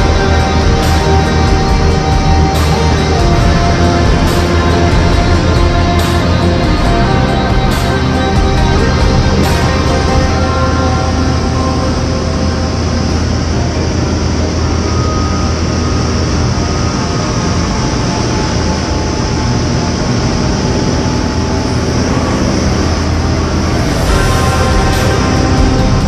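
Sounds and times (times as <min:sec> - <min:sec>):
airplane engine drone: 0:00.0 - 0:26.0.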